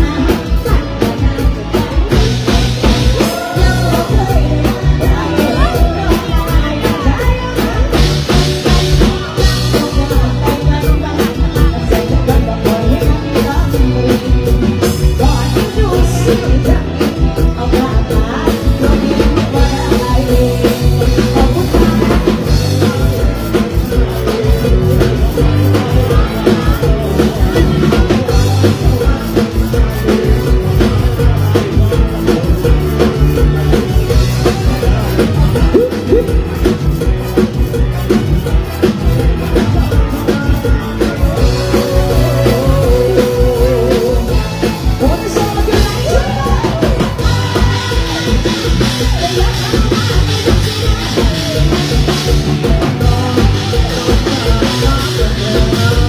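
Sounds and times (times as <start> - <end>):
bass: 0.0 - 56.0
drum kit beat: 0.0 - 56.0
live band music over loudspeakers: 0.0 - 56.0
person singing: 0.0 - 56.0.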